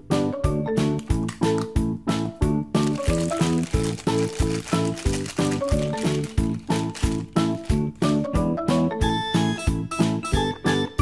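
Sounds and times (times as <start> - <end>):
upbeat keyboard music with beat: 0.0 - 11.0.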